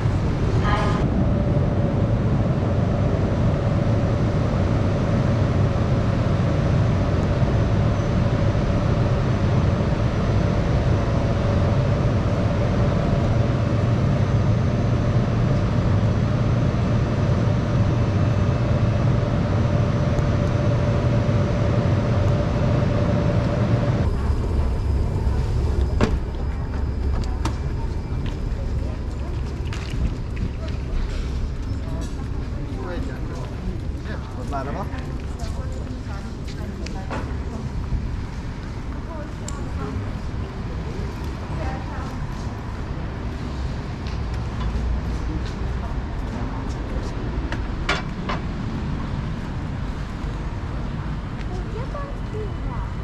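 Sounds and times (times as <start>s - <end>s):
constant whine: 0.0s - 53.0s
subway train rumbling: 0.0s - 53.0s.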